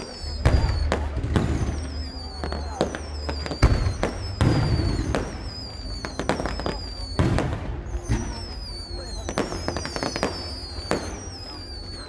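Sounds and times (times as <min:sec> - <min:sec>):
fireworks bursting with bangs: 0:00.0 - 0:12.0
fireworks crackling: 0:00.0 - 0:12.0
high descending whistles: 0:00.0 - 0:12.0.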